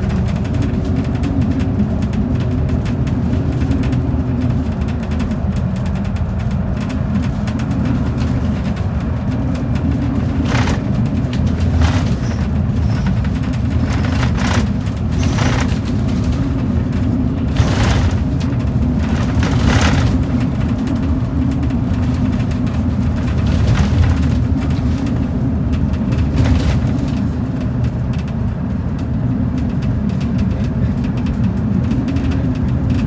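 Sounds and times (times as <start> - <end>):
bus engine and tyres rumbling: 0.0 - 33.0
rattles and bumps: 0.1 - 28.5.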